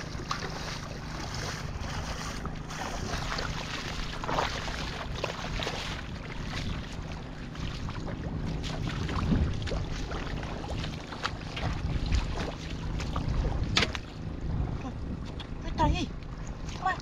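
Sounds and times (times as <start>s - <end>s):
splashes in water: 0.0s - 14.1s
wind rumble on microphone: 0.0s - 17.0s.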